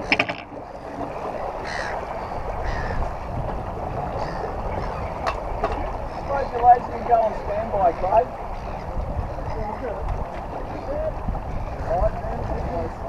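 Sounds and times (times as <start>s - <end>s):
water rushing past boat: 0.0s - 13.0s
wind noise on microphone: 0.0s - 13.0s.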